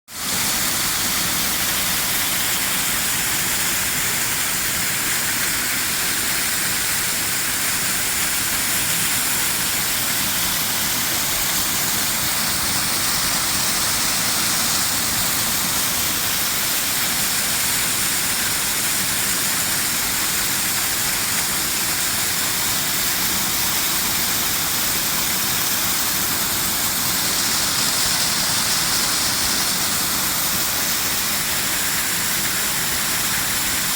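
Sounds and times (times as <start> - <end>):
waterfall pouring: 0.1 - 33.9.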